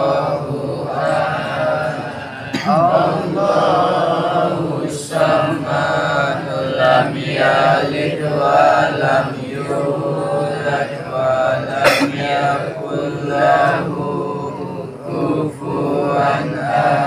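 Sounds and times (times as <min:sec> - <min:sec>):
men chanting prayers in unison: 0:00.0 - 0:17.0.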